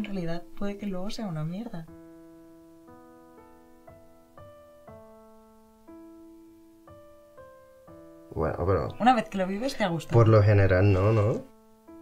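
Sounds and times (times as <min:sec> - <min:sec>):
soft slow piano music: 0:00.0 - 0:12.0.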